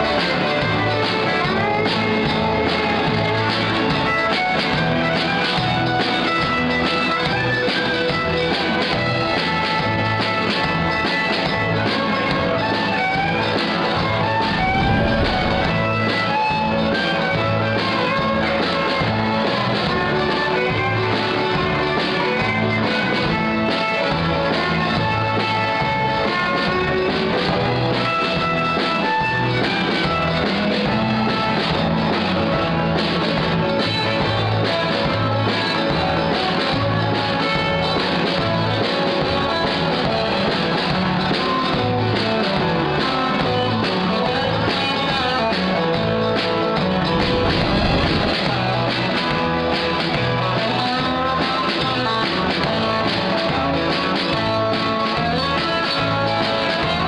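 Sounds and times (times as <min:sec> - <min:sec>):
fiddle tune: 0:00.0 - 0:57.0
guitar accompaniment: 0:00.0 - 0:57.0.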